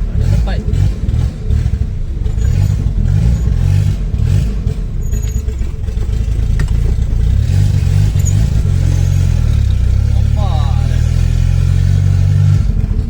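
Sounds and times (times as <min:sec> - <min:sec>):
turbocharged car engine rumbling: 0:00.0 - 0:13.0.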